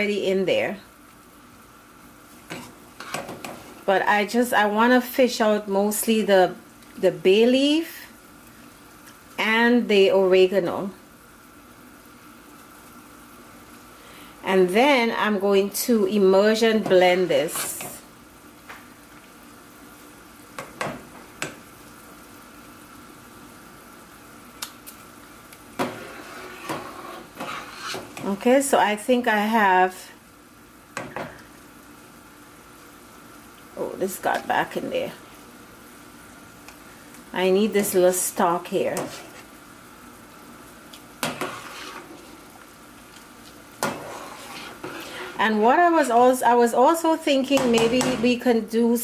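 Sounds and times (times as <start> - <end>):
low background hiss: 0.0 - 25.8, 28.0 - 41.4.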